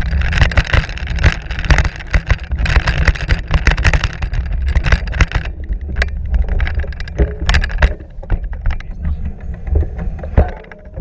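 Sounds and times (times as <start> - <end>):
bike tyres and frame rattling: 0.0 - 11.0
wind rumble on microphone: 0.0 - 11.0.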